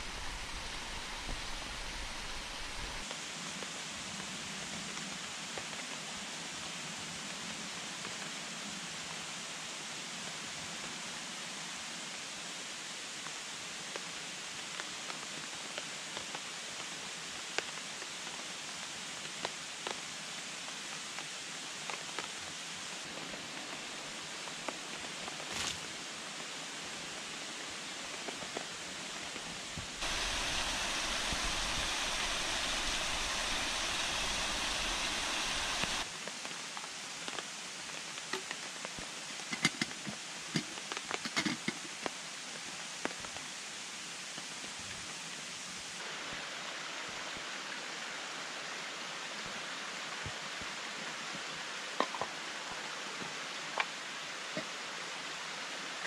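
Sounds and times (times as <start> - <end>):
mountain stream rushing: 0.0 - 4.1, 13.0 - 56.0.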